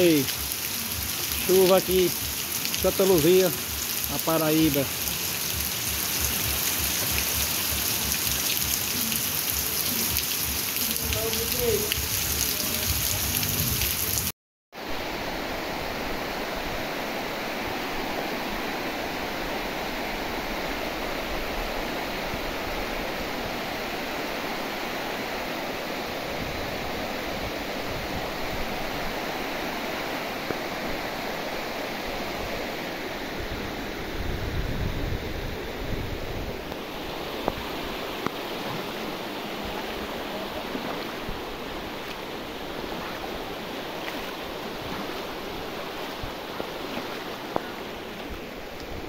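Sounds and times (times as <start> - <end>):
floodwater rushing: 0.0 - 49.0.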